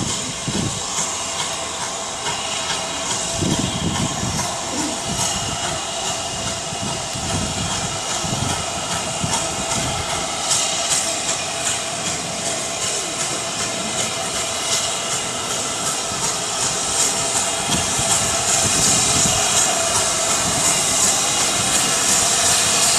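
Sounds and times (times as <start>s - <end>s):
hiss of steam: 0.0s - 22.9s
train clanking and clicking: 0.0s - 22.9s.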